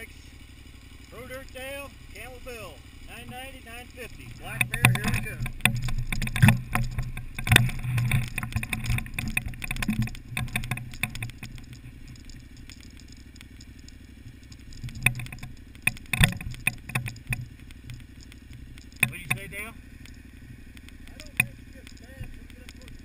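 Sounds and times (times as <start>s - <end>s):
motorcycle clattering over rocks: 0.0s - 23.0s
motorcycle engine running: 0.0s - 23.0s.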